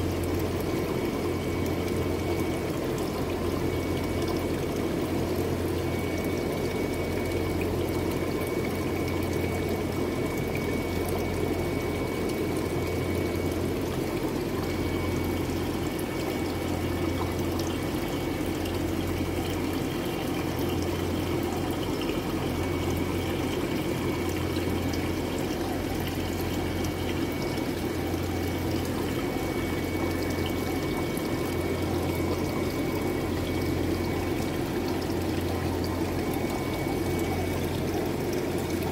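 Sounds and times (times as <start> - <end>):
low steady hum: 0.0 - 38.9
running water in a tank: 0.0 - 38.9.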